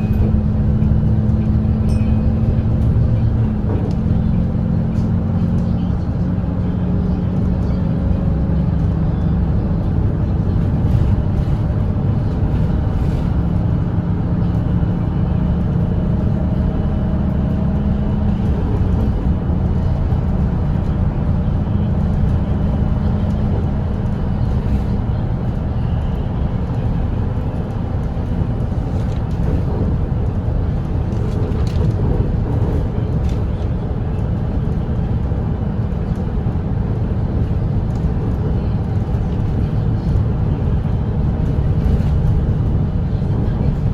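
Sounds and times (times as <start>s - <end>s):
bus diesel engine drone: 0.0s - 43.9s
road and tyre noise: 0.0s - 43.9s.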